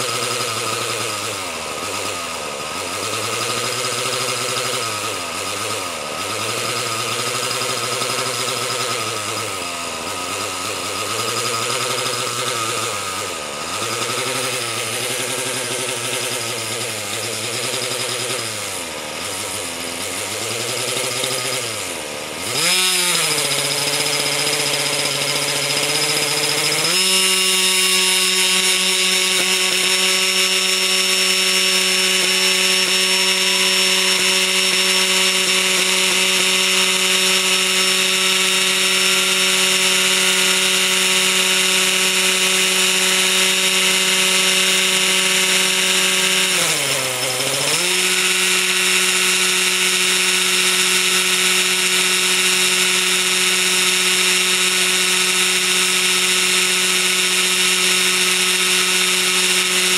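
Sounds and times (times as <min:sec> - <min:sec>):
model helicopter engine running: 0:00.0 - 0:59.9.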